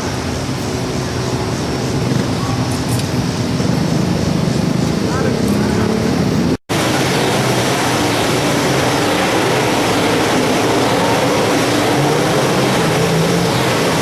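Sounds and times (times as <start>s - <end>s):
race car engines howling: 0.0s - 14.0s.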